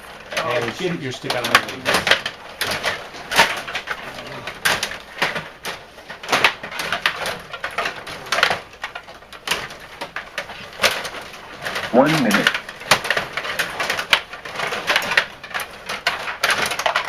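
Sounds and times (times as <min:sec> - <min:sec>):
hockey sticks and puck clacking: 0:00.0 - 0:17.0.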